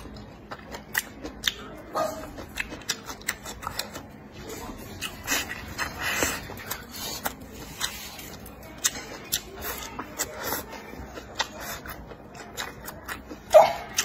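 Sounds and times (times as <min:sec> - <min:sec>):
man chewing: 0:00.0 - 0:14.0.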